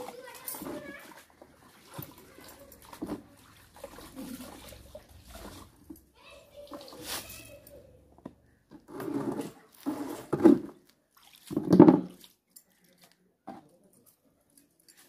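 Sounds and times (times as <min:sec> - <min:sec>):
water splashing in a washtub: 0:00.0 - 0:08.0, 0:09.0 - 0:13.1.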